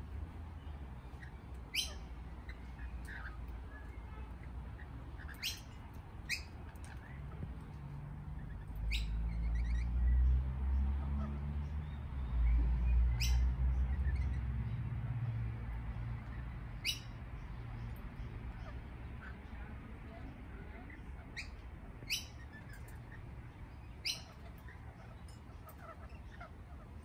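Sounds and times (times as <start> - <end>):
lorikeets calling: 0.6 - 7.4, 8.2 - 14.8, 16.1 - 27.0.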